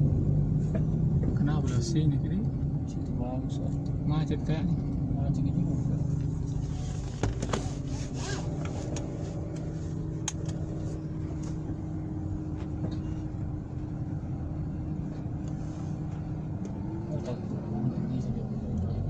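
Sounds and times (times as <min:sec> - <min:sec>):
car engine running low: 0:00.0 - 0:19.0.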